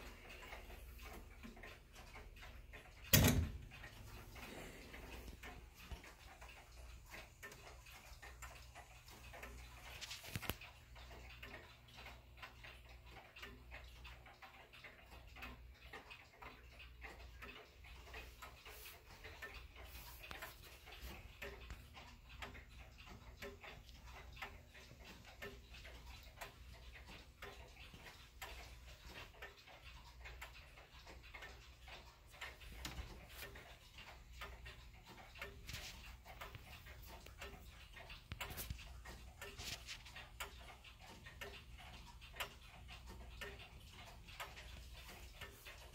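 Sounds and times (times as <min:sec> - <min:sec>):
clock ticking: 0:00.0 - 0:45.9.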